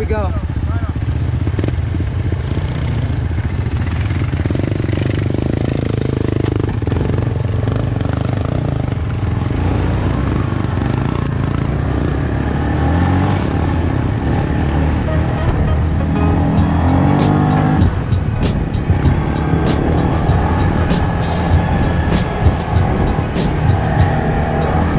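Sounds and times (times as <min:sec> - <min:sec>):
quad bike engine running: 0:00.0 - 0:24.9.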